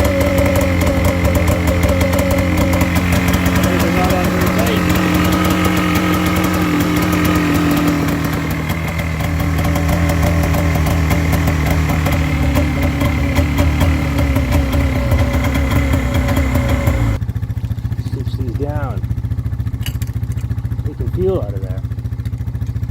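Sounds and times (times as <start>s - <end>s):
snowmobile engine idling: 0.0s - 22.9s.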